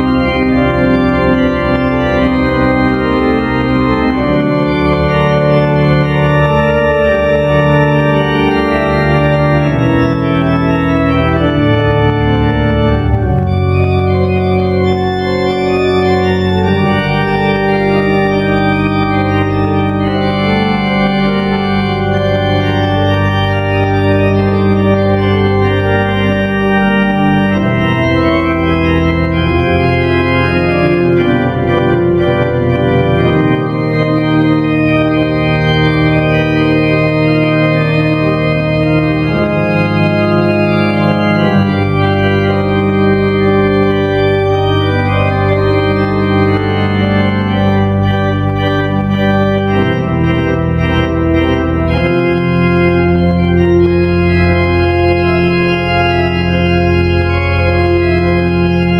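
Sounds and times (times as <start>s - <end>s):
pipe organ playing chords: 0.0s - 58.9s.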